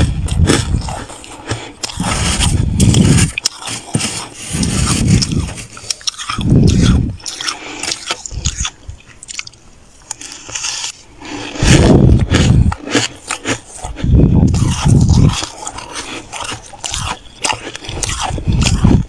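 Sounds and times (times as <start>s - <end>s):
spoon scraping frost: 0.0s - 9.3s, 10.1s - 19.0s
frost crunching in mouth: 0.0s - 19.0s.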